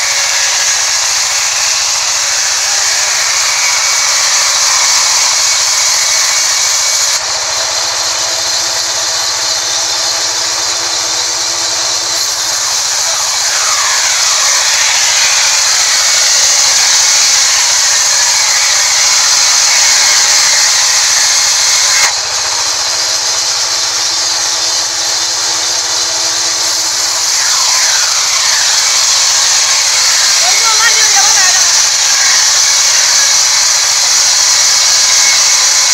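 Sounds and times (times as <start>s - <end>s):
band saw cutting log: 0.0s - 35.9s.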